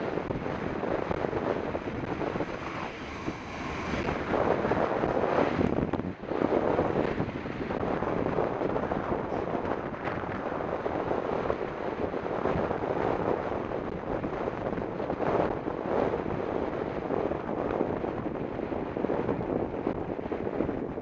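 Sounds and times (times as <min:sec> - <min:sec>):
bike tyres rolling on asphalt: 0:00.0 - 0:21.0
wind rushing over microphone: 0:00.0 - 0:21.0.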